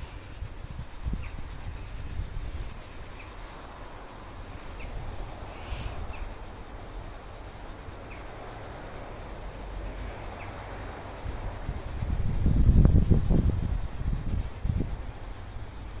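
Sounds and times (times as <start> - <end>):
steady high-pitched hiss: 0.0 - 16.0
wind rumbling on microphone: 0.0 - 16.0.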